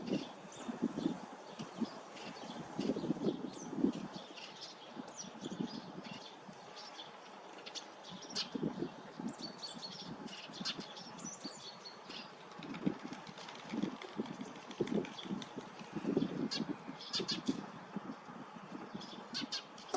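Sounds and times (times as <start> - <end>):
sparrows chirping: 0.0 - 12.5, 13.6 - 19.9.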